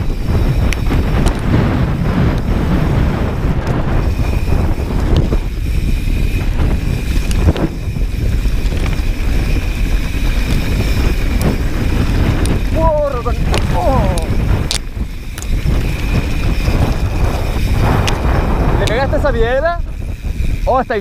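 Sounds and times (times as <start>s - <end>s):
bike clicks and rattles: 0.0s - 21.0s
tyres rumbling on dirt trail: 0.0s - 21.0s
wind rushing over microphone: 0.0s - 21.0s.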